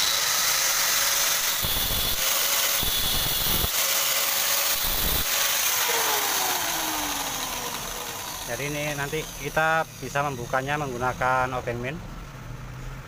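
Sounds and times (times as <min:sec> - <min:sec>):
grinder disc cutting steel: 0:00.0 - 0:11.6
grinder motor whine: 0:00.0 - 0:11.7.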